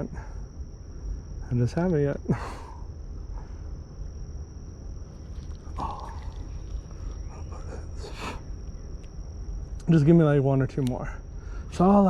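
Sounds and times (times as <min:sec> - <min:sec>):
high-pitched insect drone: 0:00.0 - 0:12.0
low outdoor rumble: 0:00.0 - 0:12.0.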